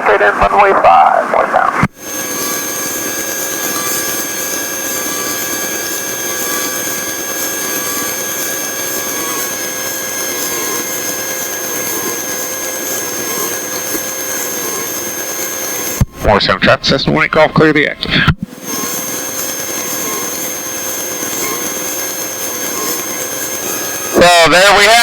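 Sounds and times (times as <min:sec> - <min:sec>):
faint steady whines: 0:00.0 - 0:25.0
light aircraft engine and propeller: 0:00.1 - 0:17.8, 0:18.5 - 0:25.0.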